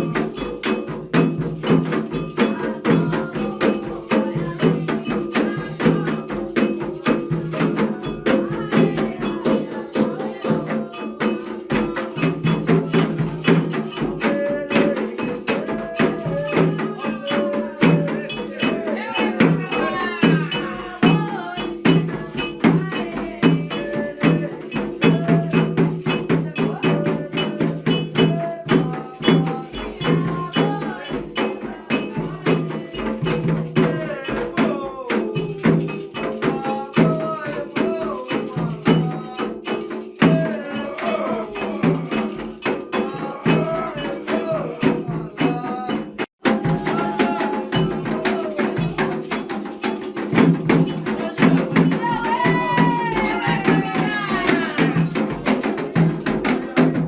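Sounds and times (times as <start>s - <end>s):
bell struck rhythmically: 0.0s - 57.0s
drums: 0.0s - 57.0s
voices singing: 0.0s - 57.0s.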